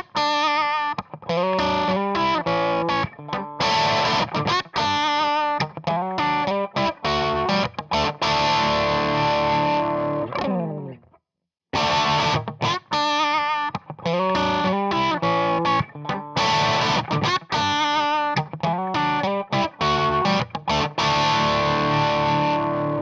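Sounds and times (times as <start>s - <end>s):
distorted electric guitar: 0.0s - 11.0s, 11.8s - 23.0s.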